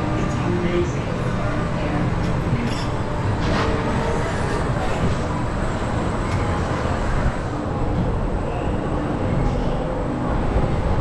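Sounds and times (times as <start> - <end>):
coaster car rolling on track: 0.0 - 11.0.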